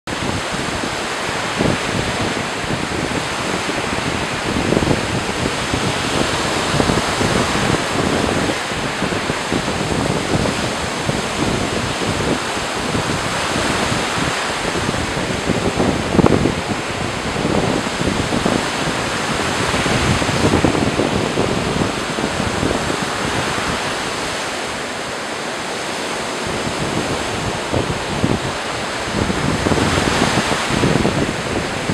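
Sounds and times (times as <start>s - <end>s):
small waves breaking on sand: 0.1s - 31.9s.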